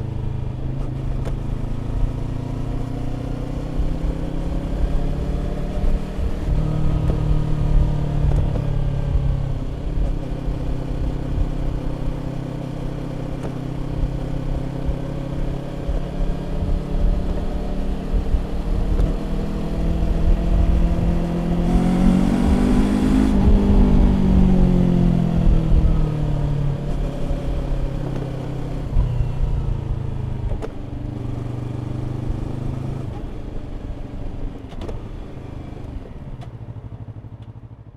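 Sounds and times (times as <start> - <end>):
motorcycle exhaust while riding: 0.0 - 37.9.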